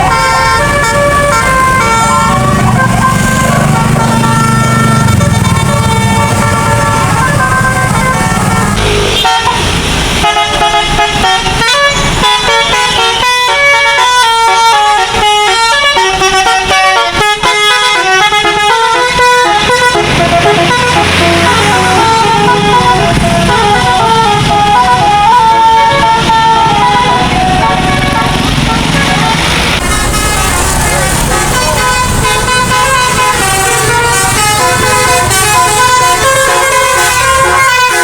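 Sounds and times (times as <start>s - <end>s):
bus engine running: 0.0s - 38.0s
musical bus air horn: 0.0s - 38.0s.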